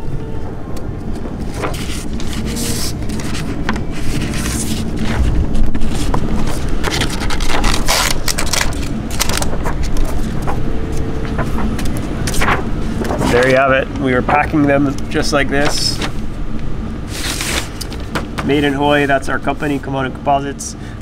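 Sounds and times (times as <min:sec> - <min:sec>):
steady low rumble: 0:00.0 - 0:21.0
scraping and rustling over paper: 0:01.1 - 0:16.2, 0:17.0 - 0:20.0.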